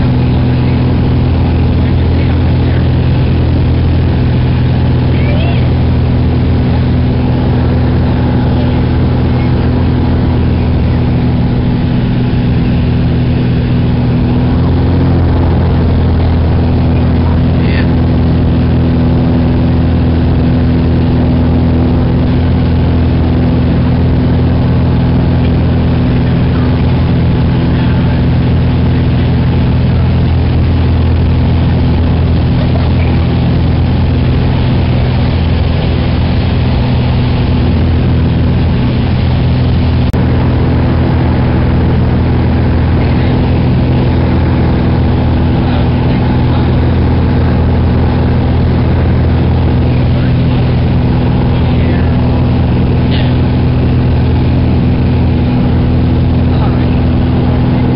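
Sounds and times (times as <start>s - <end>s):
small aircraft engine drone: 0.0s - 57.9s.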